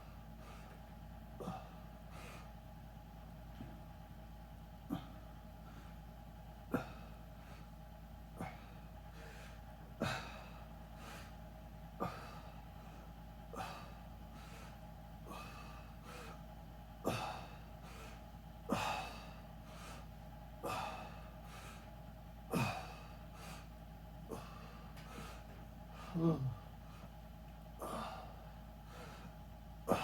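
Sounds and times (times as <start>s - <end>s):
person breathing hard: 0.0s - 2.7s, 4.8s - 30.0s.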